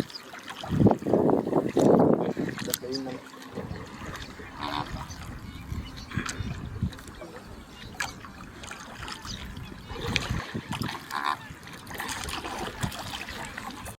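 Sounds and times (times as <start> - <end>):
water splashing around a boat: 0.0 - 14.0.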